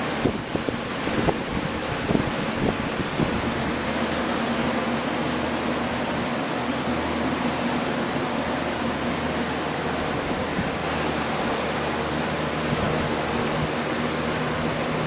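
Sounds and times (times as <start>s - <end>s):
air blowers running: 0.0s - 15.0s.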